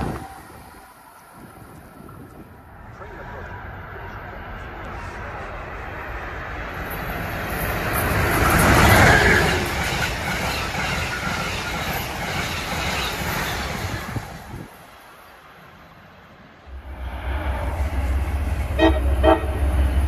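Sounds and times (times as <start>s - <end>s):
passenger train wheels rolling on rails: 0.0s - 20.0s.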